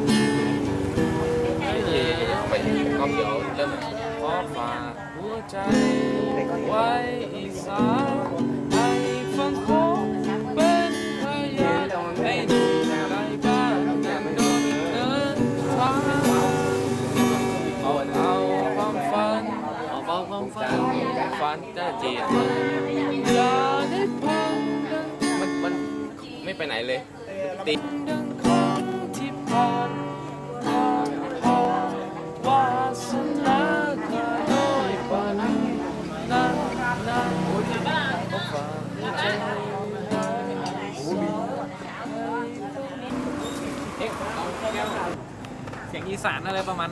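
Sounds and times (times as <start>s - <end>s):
acoustic guitar strumming: 0.0s - 46.9s
person singing: 1.5s - 26.4s, 27.6s - 43.8s.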